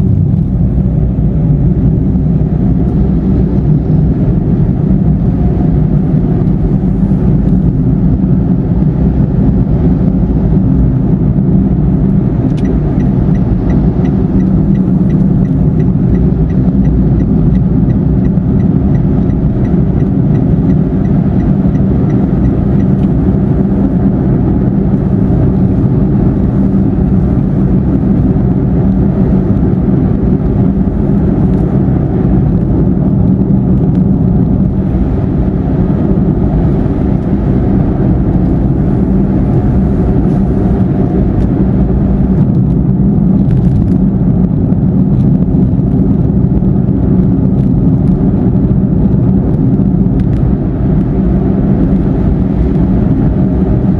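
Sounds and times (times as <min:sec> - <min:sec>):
car engine inside cabin: 0:00.0 - 0:53.9
tyre road noise: 0:00.0 - 0:53.9.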